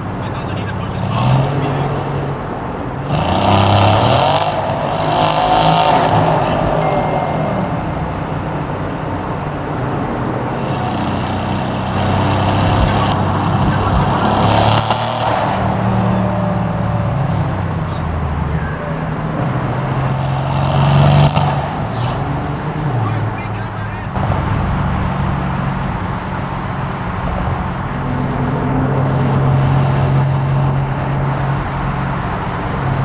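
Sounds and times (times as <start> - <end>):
cars driving through tunnel: 0.0 - 33.0.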